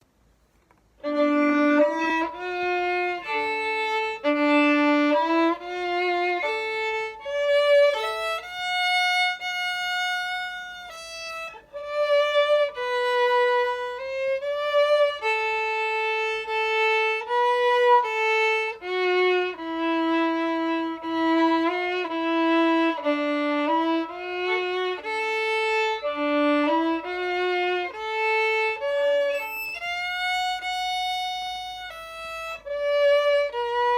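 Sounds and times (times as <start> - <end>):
violin melody: 1.0 - 33.9.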